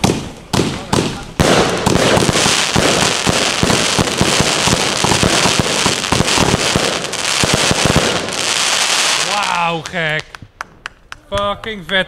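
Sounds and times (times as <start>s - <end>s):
fireworks cake firing: 0.0s - 9.8s.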